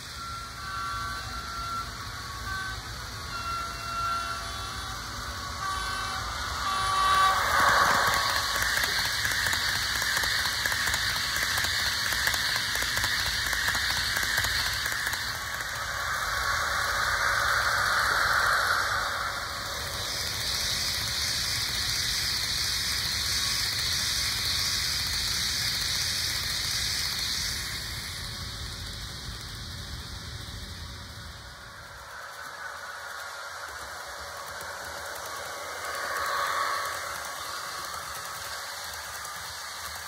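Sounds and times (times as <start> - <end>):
steady rushing hiss: 0.0 - 40.0.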